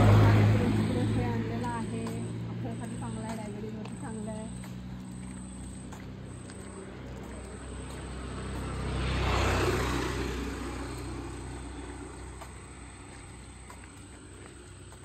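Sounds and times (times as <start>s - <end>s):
motor scooter passing by: 0.0s - 15.0s.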